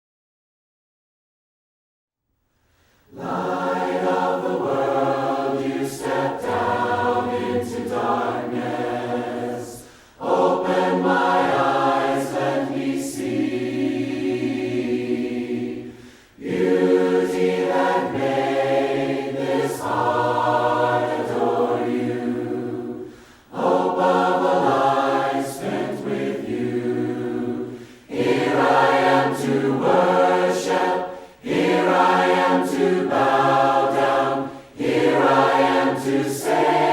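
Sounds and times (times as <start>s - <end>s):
group singing a hymn a cappella: 3.1s - 36.9s.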